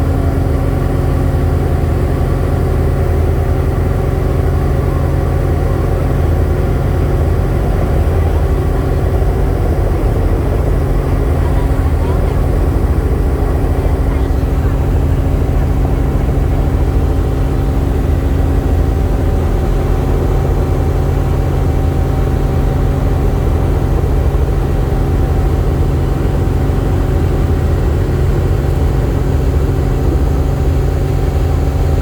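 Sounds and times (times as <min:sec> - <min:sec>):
helicopter rotor and engine drone: 0:00.0 - 0:32.0.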